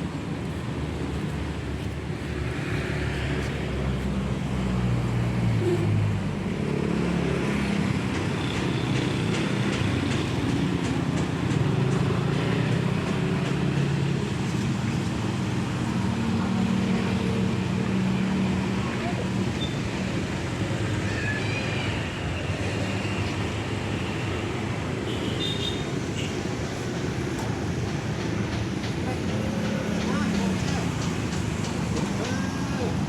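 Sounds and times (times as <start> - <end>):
road traffic: 0.0 - 33.0
vehicles passing: 0.0 - 33.0.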